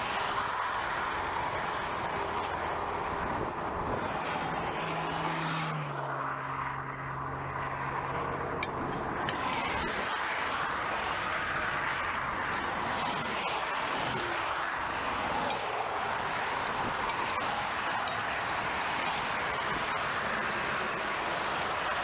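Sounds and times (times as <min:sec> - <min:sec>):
highway traffic rushing past: 0:00.0 - 0:22.0
passing vehicle hum: 0:00.0 - 0:22.0.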